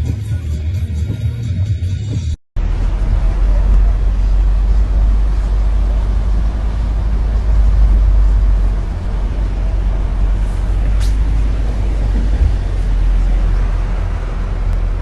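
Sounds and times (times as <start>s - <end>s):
moving road vehicle rumble: 0.0s - 15.0s.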